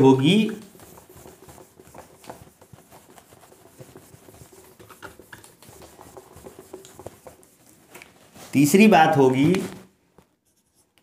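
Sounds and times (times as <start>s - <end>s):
cloth rubbing on whiteboard: 0.0s - 11.0s.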